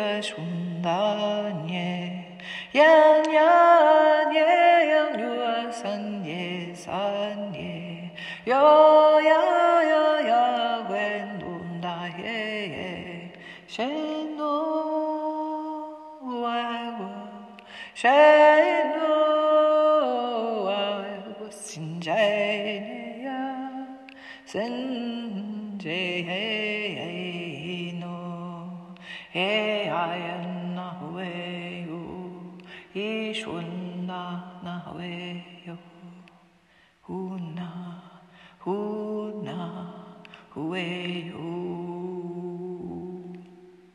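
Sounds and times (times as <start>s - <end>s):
person chanting wordlessly: 0.0s - 43.9s.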